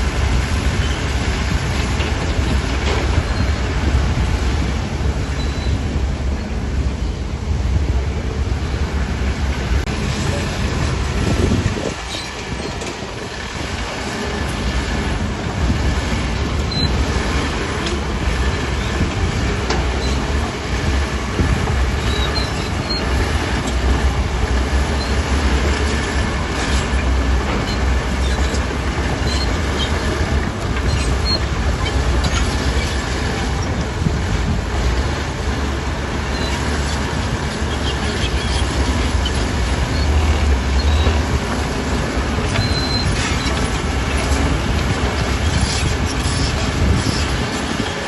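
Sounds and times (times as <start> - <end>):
steel tracks clanking over stone: 0.0 - 6.8, 8.0 - 48.0
bulldozer diesel engine droning: 0.0 - 48.0.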